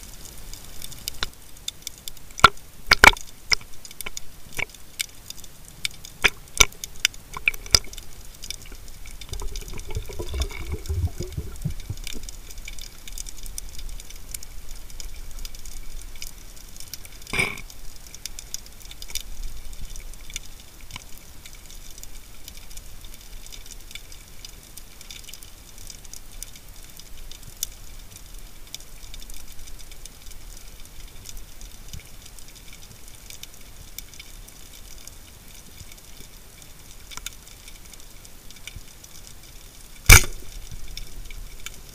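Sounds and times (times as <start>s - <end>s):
low rumble of water: 0.0s - 41.9s
underwater crackle of clicks: 0.0s - 41.9s.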